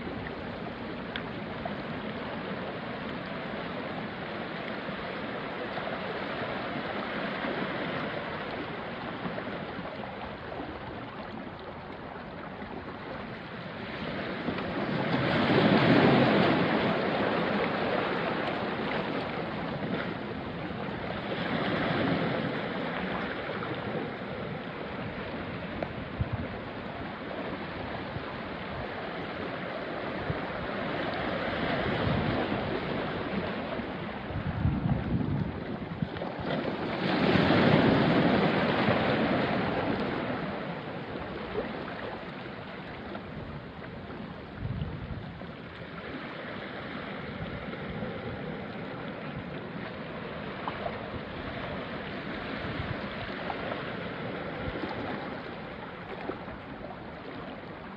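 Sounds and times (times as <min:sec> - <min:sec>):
waves washing onto rocky shore: 0:00.0 - 0:57.9
wind on microphone: 0:00.0 - 0:57.9.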